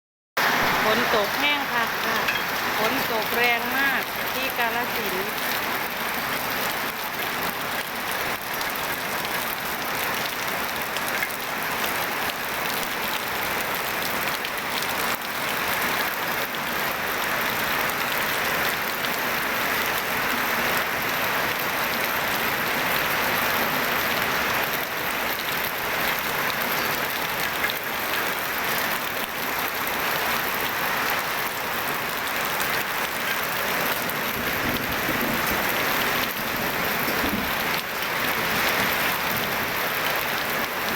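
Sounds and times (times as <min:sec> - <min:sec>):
heavy rain falling: 0:00.4 - 0:40.9.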